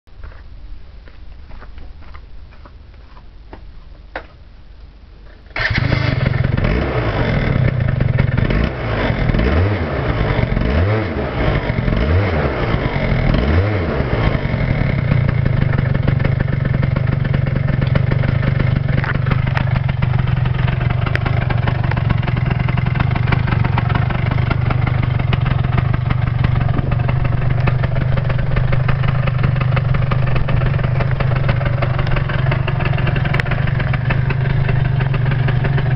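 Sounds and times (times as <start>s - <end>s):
scooter engine revving and idling: 5.6s - 35.9s.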